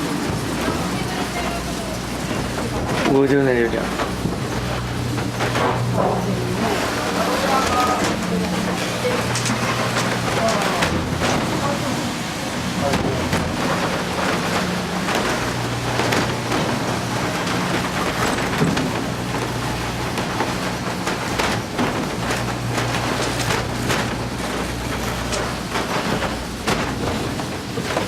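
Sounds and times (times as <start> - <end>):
cable car motor hum: 0.0 - 28.0
constant rushing noise: 0.0 - 28.0
rattles and clicks: 0.1 - 28.0.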